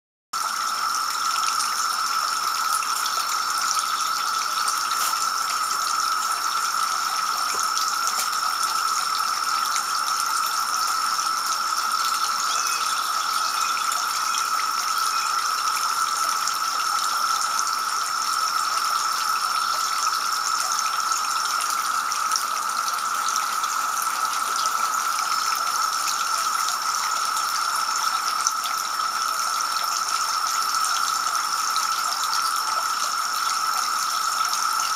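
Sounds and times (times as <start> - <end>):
garden fountain splashing: 0.4 - 34.9.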